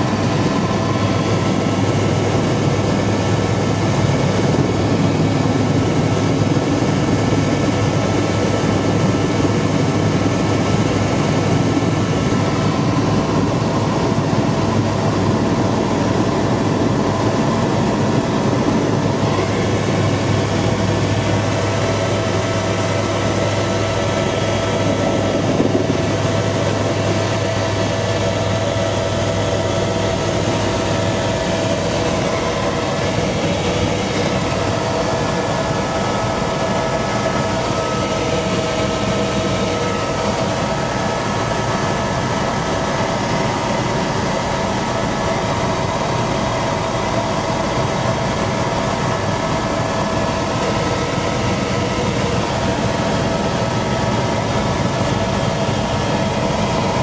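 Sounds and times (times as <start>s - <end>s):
helicopter drone inside cabin: 0.0s - 57.0s
steady whining tones: 0.0s - 57.0s.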